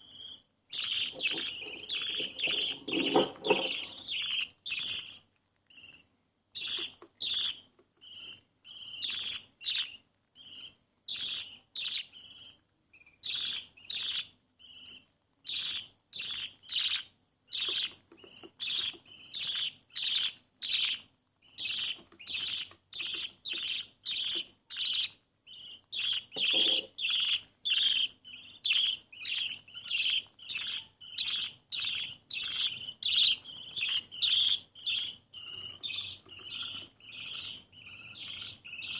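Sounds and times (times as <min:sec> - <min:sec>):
baby budgerigar cheeping: 0:00.0 - 0:38.9.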